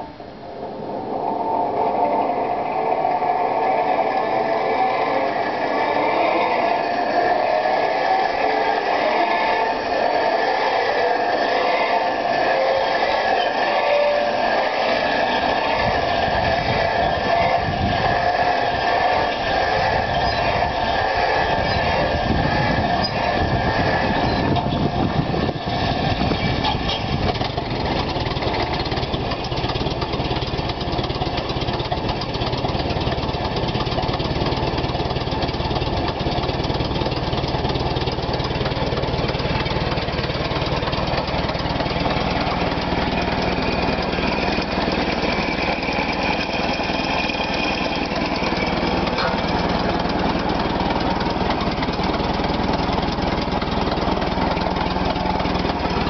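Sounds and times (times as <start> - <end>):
truck engine idling: 0.0 - 56.0
hand-cranked flywheel whine: 0.8 - 56.0.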